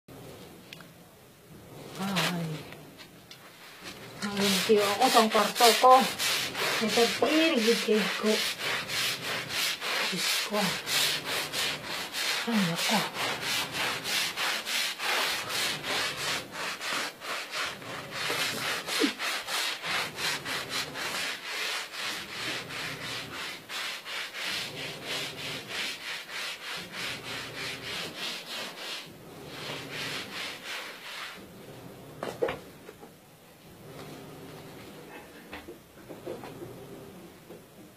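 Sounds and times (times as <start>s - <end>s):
scrubbing floor by hand: 1.6s - 35.3s.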